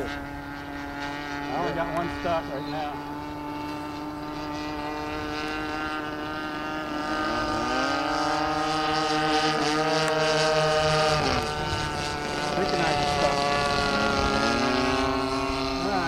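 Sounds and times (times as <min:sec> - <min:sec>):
model plane engine drone: 0:00.0 - 0:16.0.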